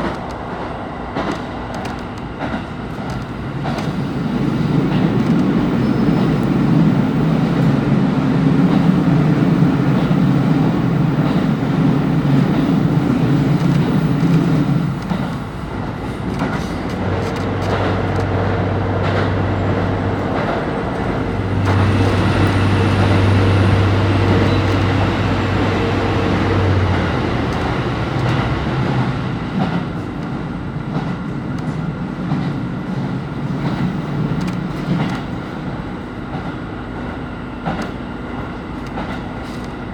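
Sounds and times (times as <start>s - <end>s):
diesel railcar engine: 0.0s - 39.9s
rail noise: 0.0s - 39.9s.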